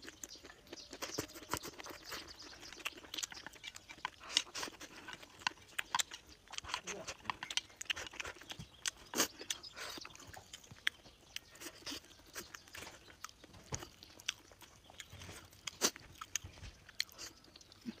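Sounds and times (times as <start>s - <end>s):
chewing crunchy fried food: 0.0s - 18.0s.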